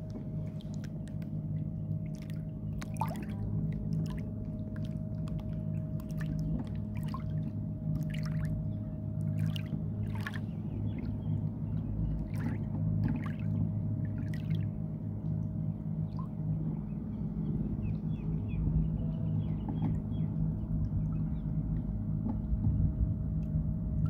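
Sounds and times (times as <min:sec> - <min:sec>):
boat motor humming: 0:00.0 - 0:24.0
water splashing against hull: 0:00.0 - 0:24.0.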